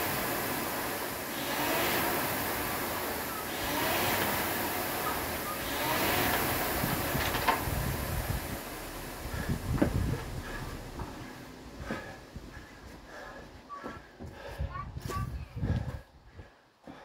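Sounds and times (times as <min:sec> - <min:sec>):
rowing machine fan whooshing: 0:00.0 - 0:16.0.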